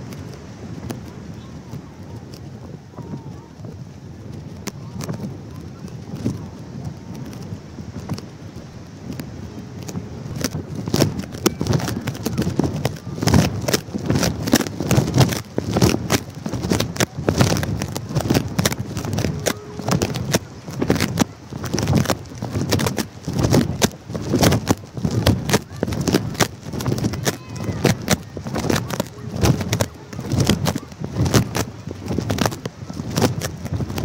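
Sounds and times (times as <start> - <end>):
crackling knocks and rustling: 0.0 - 34.0
wind buffeting microphone: 0.0 - 34.0.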